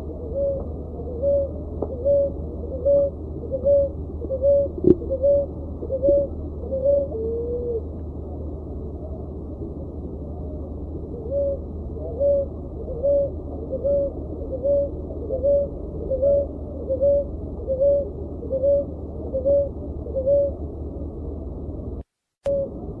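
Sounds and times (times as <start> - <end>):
dove cooing: 0.0 - 7.9, 10.3 - 20.6, 22.5 - 22.9
constant low hum: 0.0 - 23.0.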